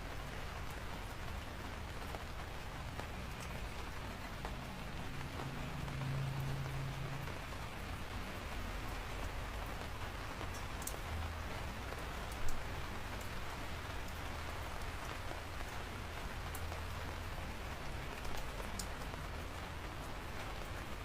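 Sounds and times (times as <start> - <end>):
steady rain hiss: 0.0 - 21.0
raindrop ticks: 0.2 - 21.0.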